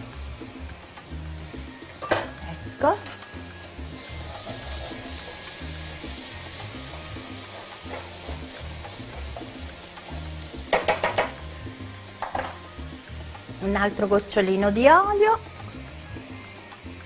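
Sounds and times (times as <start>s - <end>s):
soft background music: 0.0s - 17.0s
vegetables sizzling in oil: 0.0s - 17.0s.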